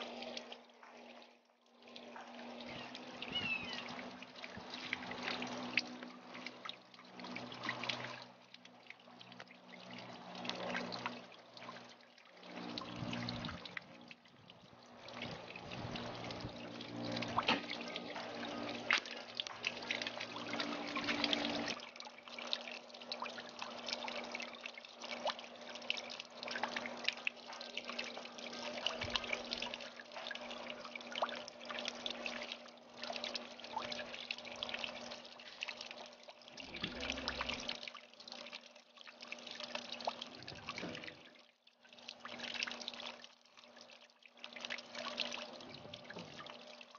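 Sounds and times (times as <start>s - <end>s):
faint steady hum: 0.0s - 46.9s
fountain water trickling and splashing: 0.0s - 46.9s.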